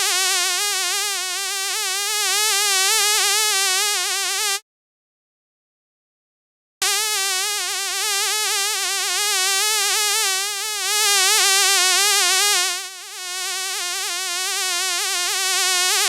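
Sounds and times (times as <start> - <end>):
fly buzzing: 0.0 - 4.6, 6.8 - 16.0.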